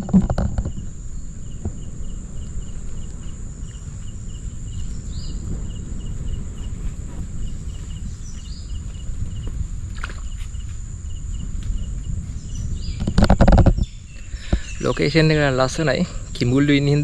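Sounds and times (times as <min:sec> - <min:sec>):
insect chirping in pulses: 0:00.0 - 0:17.0
ocean surf rumble: 0:00.0 - 0:17.0.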